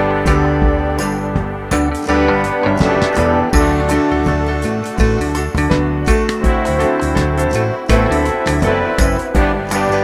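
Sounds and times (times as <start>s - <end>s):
regular drum hits: 0.3s - 10.0s.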